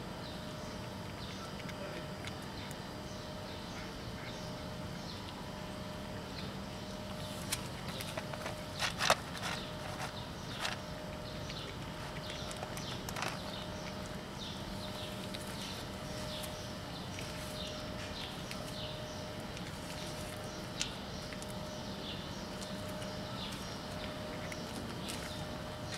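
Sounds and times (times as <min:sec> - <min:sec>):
steady low hum: 0:00.0 - 0:25.9
cat crunching dry kibble: 0:00.9 - 0:03.0, 0:07.0 - 0:25.9.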